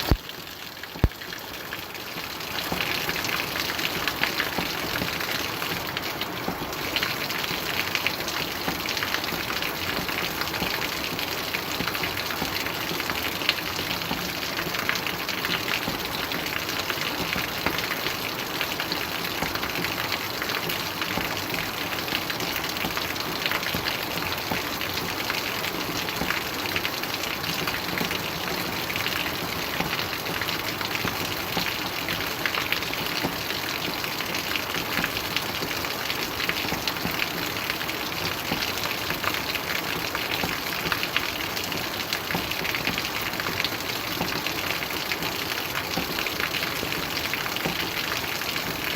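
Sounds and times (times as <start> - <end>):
raindrops ticking on a surface: 0.0 - 48.9
steady rain hiss: 0.0 - 48.9.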